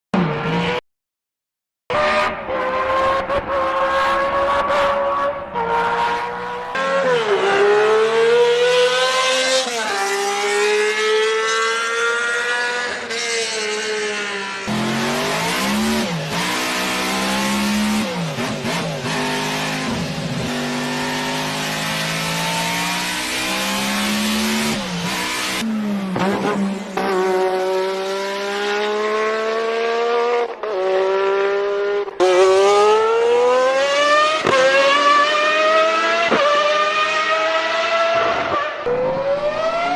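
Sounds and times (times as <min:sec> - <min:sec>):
race car engines at high revs: 0:01.9 - 0:39.9.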